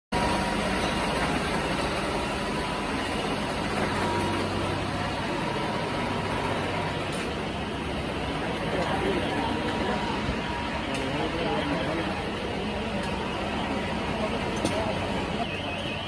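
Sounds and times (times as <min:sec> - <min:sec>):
fire engine idling: 0:00.2 - 0:16.0.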